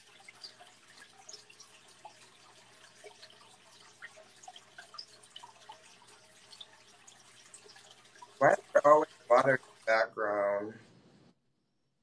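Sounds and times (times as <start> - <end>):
water trickling and dripping: 0.0 - 10.9.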